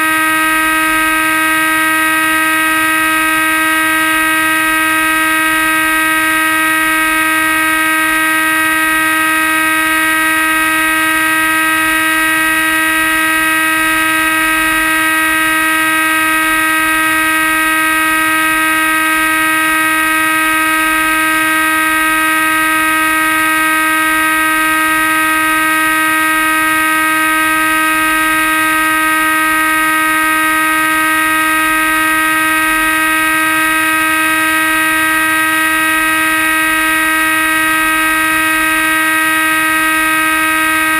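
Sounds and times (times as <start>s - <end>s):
model plane motor whining: 0.0s - 40.9s.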